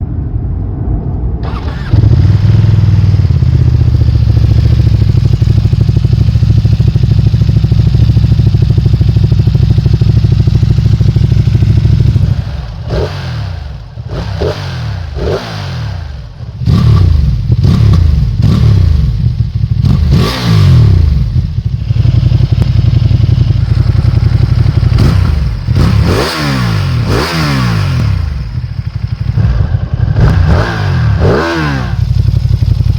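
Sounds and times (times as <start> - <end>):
motorcycle engine idling and revving: 1.4 - 32.9.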